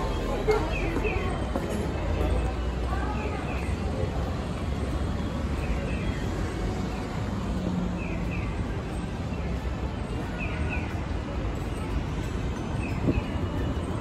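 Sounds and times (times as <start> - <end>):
city traffic rumble: 0.0 - 14.0
pedestrian crossing chirp signal: 0.0 - 14.0.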